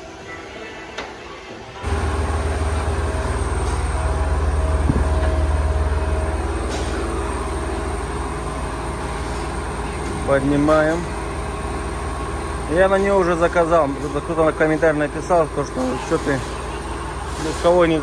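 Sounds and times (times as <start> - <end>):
engine idling: 1.8 - 18.0.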